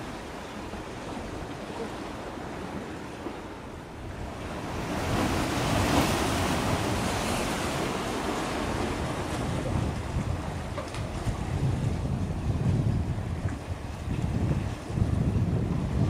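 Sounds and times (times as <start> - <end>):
waves washing: 0.0 - 16.0
wind: 0.0 - 16.0.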